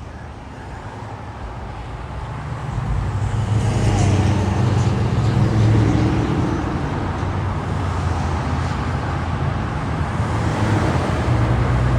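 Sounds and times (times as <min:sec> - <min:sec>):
road noise: 0:00.0 - 0:11.9.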